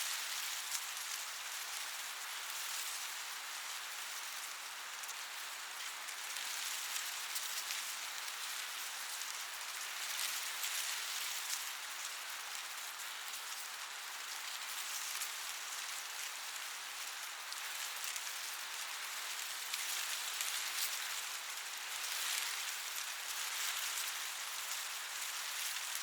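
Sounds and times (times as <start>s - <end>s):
wind rustling corn leaves: 0.0s - 26.0s.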